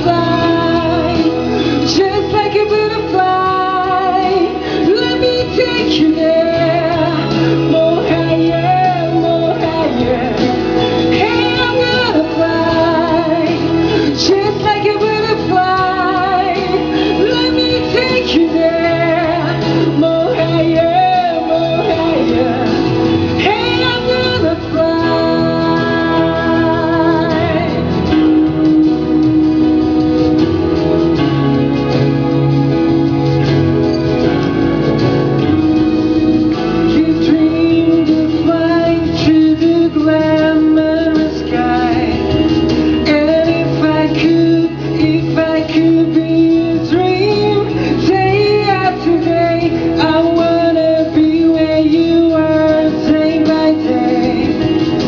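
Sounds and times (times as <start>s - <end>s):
guitar and band accompaniment: 0.0s - 55.0s
person singing: 0.0s - 55.0s.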